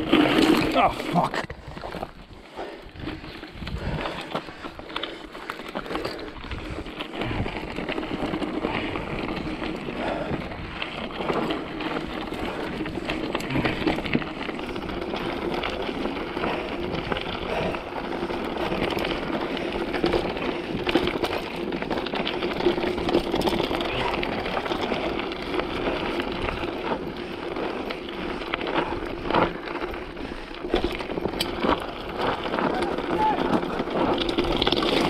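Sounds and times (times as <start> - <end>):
bike rattles and knocks: 0.0 - 35.0
tyre noise on dirt: 0.0 - 35.0.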